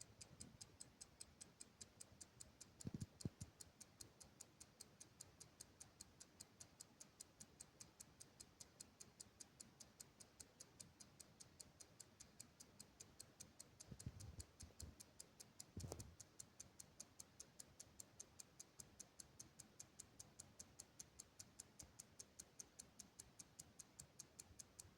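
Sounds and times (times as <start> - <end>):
clock ticking fast: 0.0 - 24.9.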